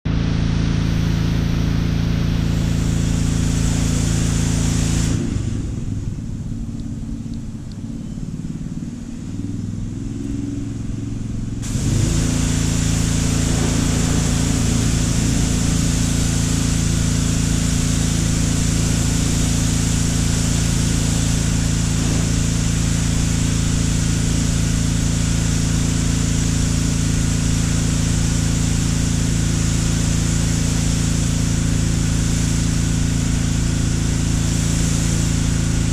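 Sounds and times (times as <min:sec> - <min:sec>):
low mechanical hum: 0:00.1 - 0:35.9.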